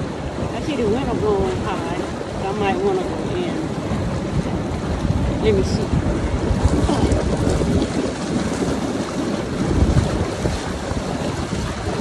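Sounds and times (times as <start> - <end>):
hot tub jets churning water: 0.0 - 12.0
wind buffeting microphone: 0.0 - 12.0.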